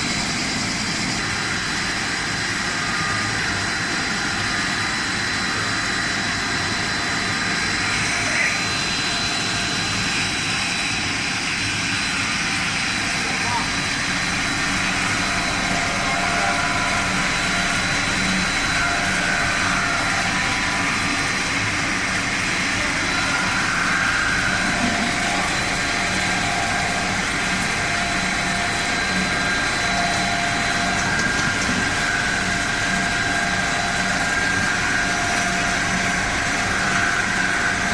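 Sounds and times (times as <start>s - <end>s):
high machine whining tones: 0.0s - 37.9s
machinery hum: 0.0s - 37.9s.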